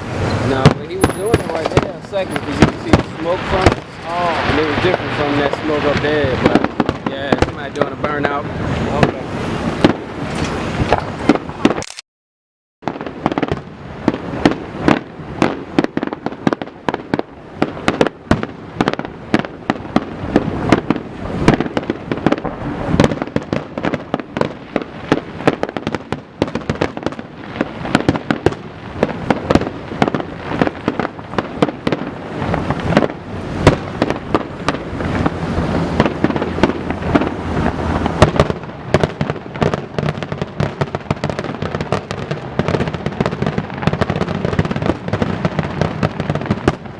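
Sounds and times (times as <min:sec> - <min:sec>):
fireworks booming and crackling: 0:00.0 - 0:11.8, 0:12.8 - 0:46.9.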